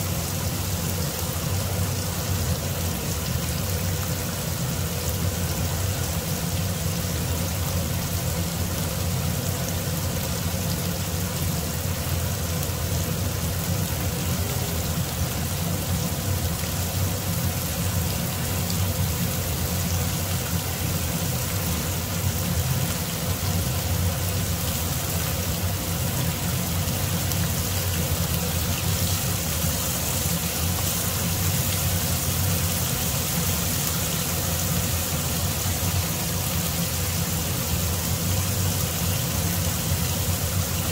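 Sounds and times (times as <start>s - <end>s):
meat sizzling in frying pan: 0.0s - 40.9s.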